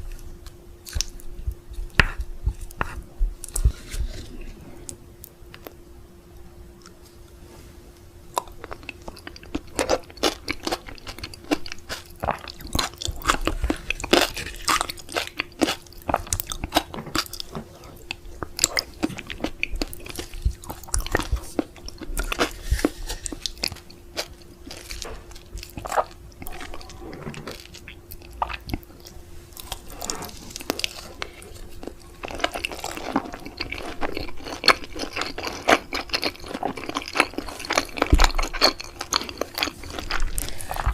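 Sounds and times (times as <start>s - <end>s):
person chewing crunchy food: 0.0s - 5.8s, 8.3s - 40.9s
faint steady hum: 0.0s - 40.9s.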